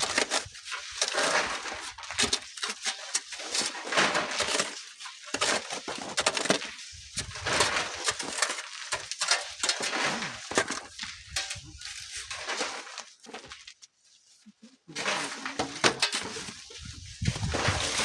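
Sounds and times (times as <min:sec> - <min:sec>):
sand and gravel being shovelled: 0:00.0 - 0:18.0.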